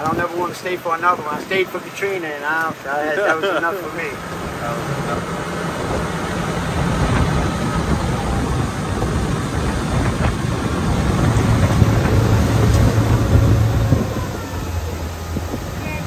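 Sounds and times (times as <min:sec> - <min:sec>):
outboard motor humming: 0:00.0 - 0:16.0
wind and water rushing: 0:00.0 - 0:16.0.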